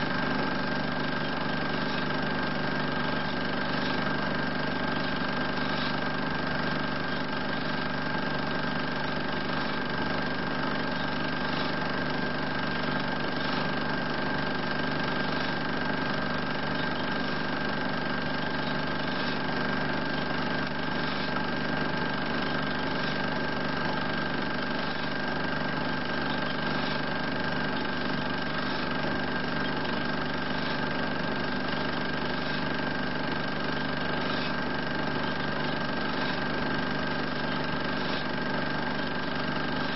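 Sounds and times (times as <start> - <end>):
film projector motor hum: 0.0 - 39.9
high steady whine: 0.0 - 39.9.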